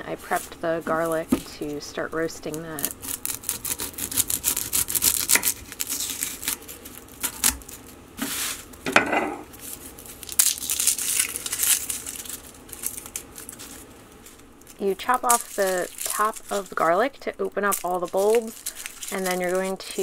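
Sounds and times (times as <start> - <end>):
papery skin crackling and tearing: 2.4 - 8.8, 9.5 - 20.0.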